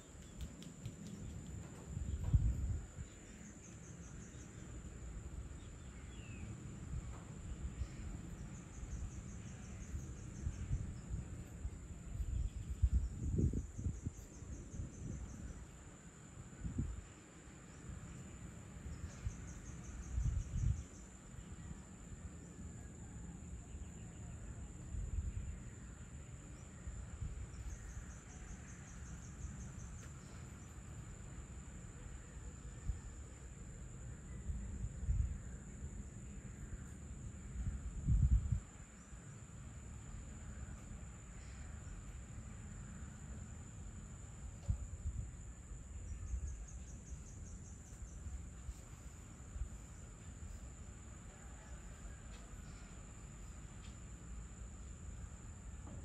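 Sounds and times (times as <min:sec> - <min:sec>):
wind rumble on microphone: 0:00.0 - 0:22.2, 0:23.0 - 0:30.8, 0:31.6 - 0:42.2, 0:44.1 - 0:52.2
insects trilling: 0:00.0 - 0:56.0.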